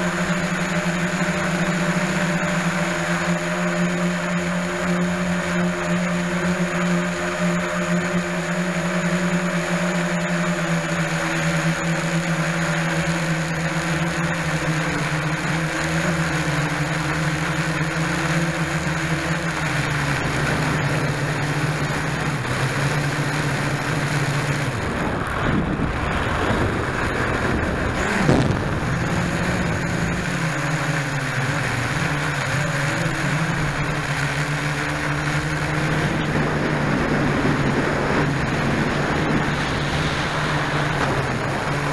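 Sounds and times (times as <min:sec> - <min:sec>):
drone motors whining: 0:00.0 - 0:41.9.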